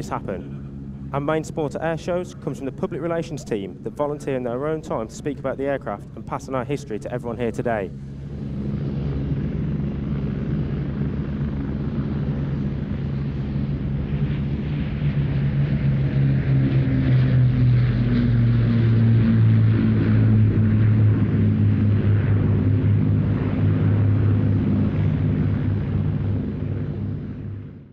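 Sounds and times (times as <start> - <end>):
propeller aircraft engines droning: 0.0 - 27.9.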